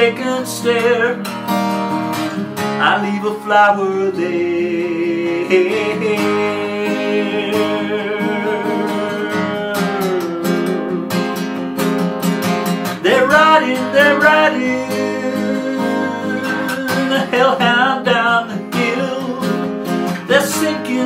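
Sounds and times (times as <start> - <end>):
man singing: 0.0 - 1.3, 2.6 - 11.6, 12.9 - 21.0
acoustic guitar strumming chords: 0.0 - 21.0.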